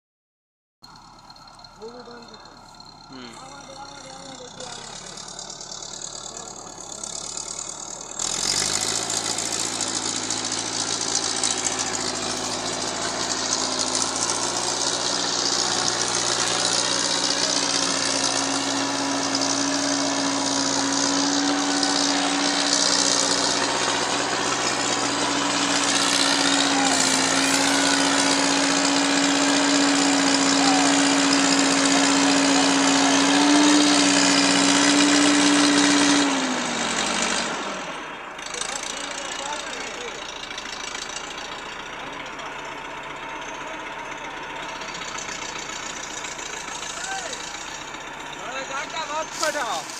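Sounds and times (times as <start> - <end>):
tractor diesel engine droning: 0.8 - 49.9.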